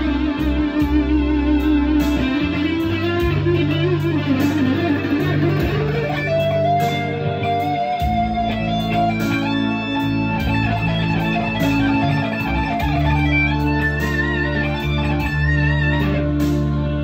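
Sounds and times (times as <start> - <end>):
electric guitar lead melody: 0.0 - 17.0
rock ballad backing track: 0.0 - 17.0.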